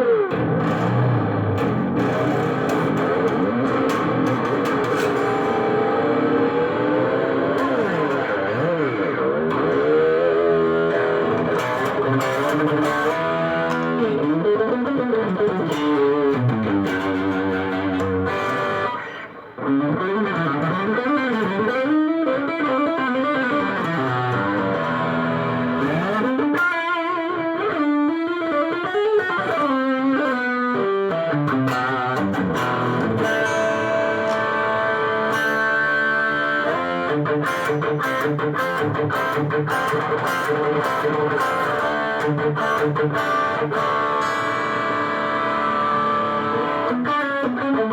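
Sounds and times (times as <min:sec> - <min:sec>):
electric guitar lead lines: 0:00.0 - 0:47.9.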